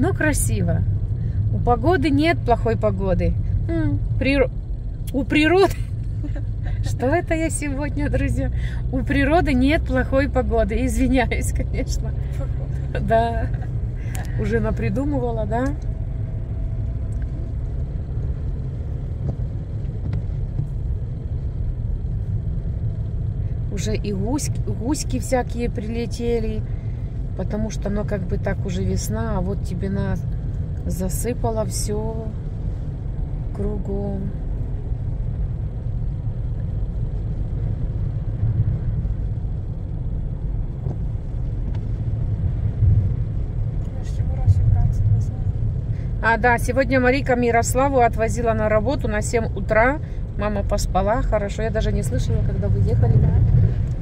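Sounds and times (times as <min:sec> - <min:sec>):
car engine rumble: 0:00.0 - 0:54.0
tyres on snowy road: 0:00.0 - 0:54.0.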